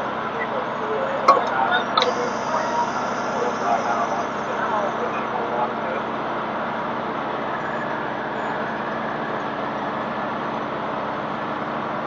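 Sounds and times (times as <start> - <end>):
large vehicle engine running: 0.0 - 12.0.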